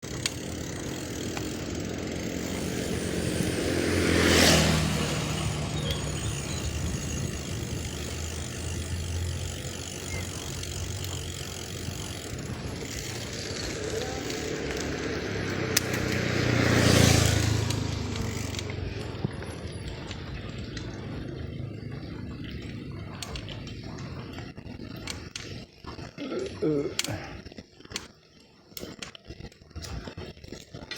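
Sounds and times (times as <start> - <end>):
motor vehicles passing by: 0.0 - 27.5.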